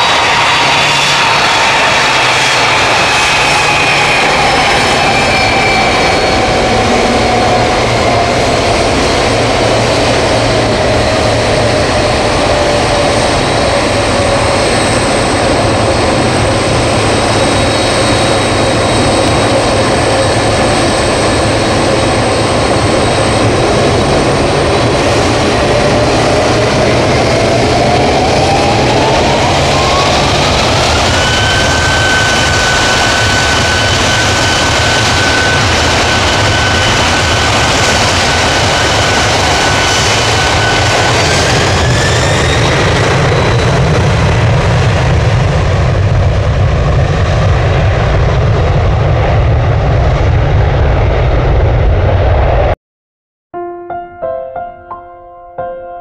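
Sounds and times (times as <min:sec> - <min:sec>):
high engine whine: 0:00.0 - 0:52.8
jet engines roaring: 0:00.0 - 0:52.8.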